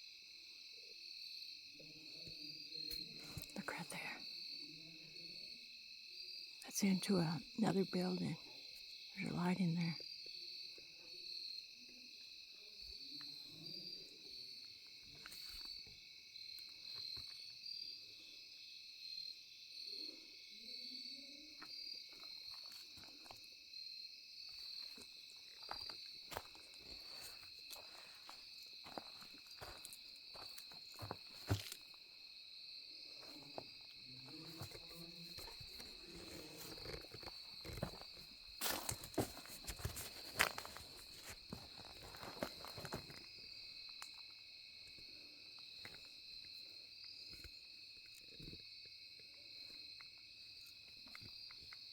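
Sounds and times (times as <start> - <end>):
insects chirring: 0.0 - 51.9.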